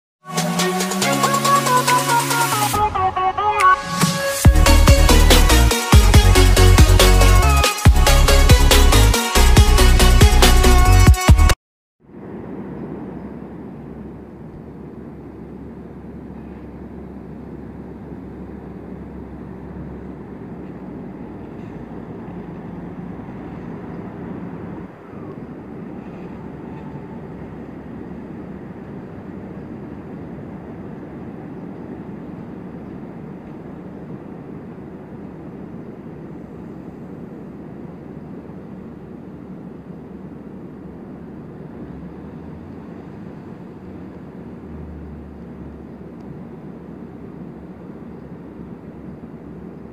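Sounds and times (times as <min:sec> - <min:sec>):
rail noise: 0:00.2 - 0:11.0, 0:12.0 - 0:49.9
diesel railcar engine hum: 0:00.3 - 0:11.0, 0:12.1 - 0:49.9.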